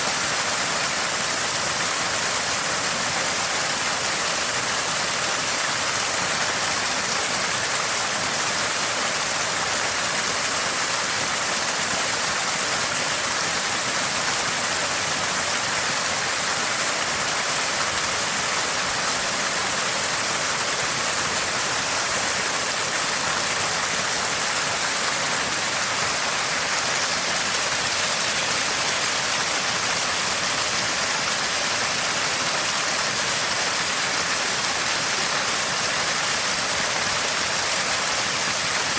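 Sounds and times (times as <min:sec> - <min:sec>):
spring water gurgling and splashing: 0:00.0 - 0:38.9.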